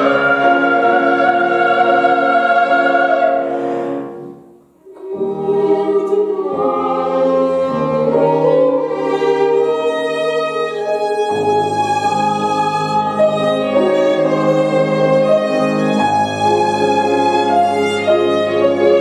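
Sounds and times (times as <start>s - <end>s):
piano accompaniment: 0.0s - 19.0s
violin slow melody: 0.0s - 19.0s.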